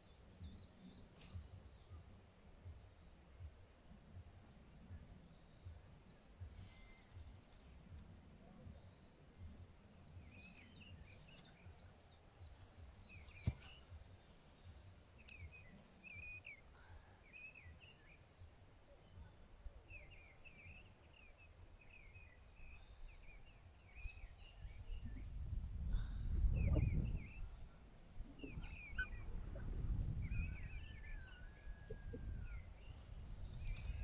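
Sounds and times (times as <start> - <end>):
songbirds chirping faintly: 0.0 - 34.0.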